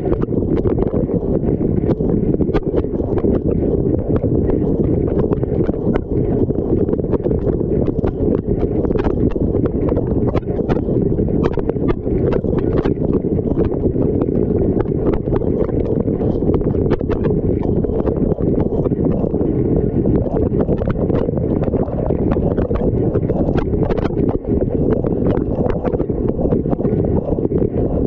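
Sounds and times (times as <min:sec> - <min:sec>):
water clicking on hard surfaces: 0:00.0 - 0:19.4, 0:20.0 - 0:28.0.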